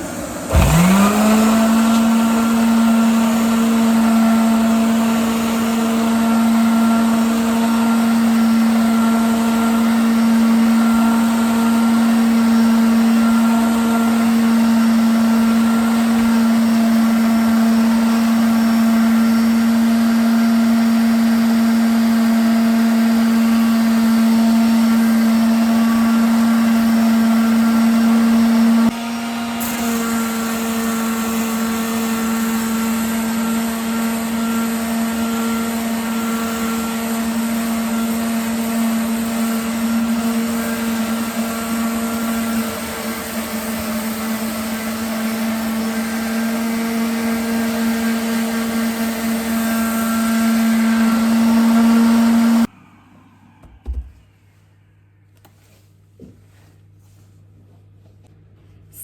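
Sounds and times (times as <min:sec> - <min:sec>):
electric sander running: 0:00.0 - 0:52.7
vacuum running: 0:00.0 - 0:55.0.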